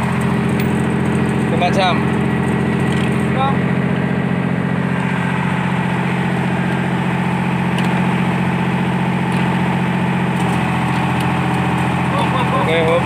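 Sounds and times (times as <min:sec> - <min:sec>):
large diesel engine idling: 0:00.0 - 0:13.0.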